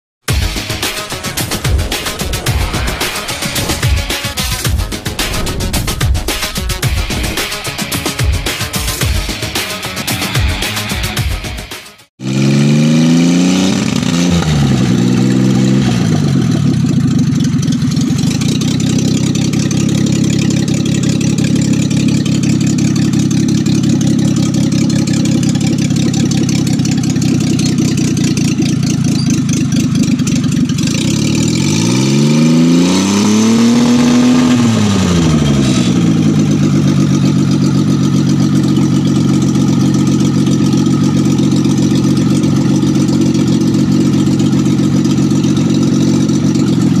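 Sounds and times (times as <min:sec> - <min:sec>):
small engine running and revving: 0:00.3 - 0:47.0.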